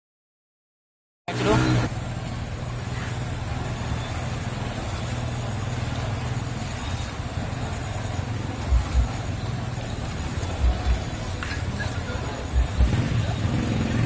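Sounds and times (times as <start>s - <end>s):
street noise: 1.3s - 14.0s
vehicle engine humming: 1.3s - 14.0s.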